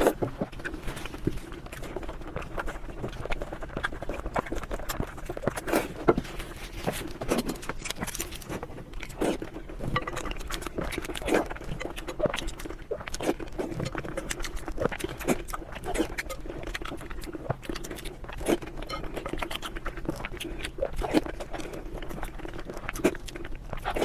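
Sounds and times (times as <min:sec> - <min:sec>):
faint steady hum: 0:00.0 - 0:24.0
mouth chewing food: 0:00.0 - 0:24.0.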